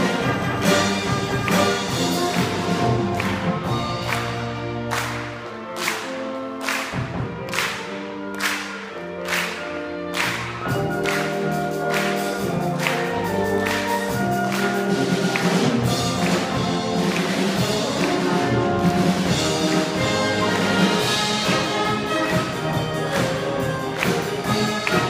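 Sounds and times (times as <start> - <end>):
percussion strikes: 0.0 - 6.0, 10.2 - 25.0
wind band playing chords: 0.0 - 25.0.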